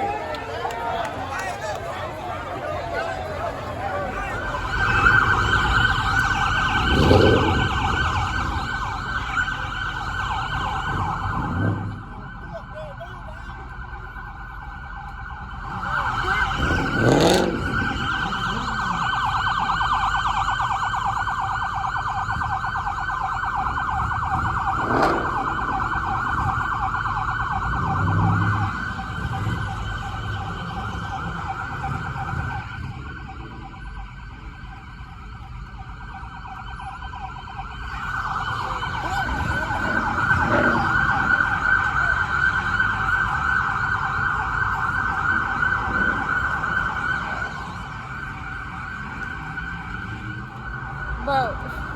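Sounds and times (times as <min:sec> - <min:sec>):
police siren warbling: 0:00.0 - 0:51.9.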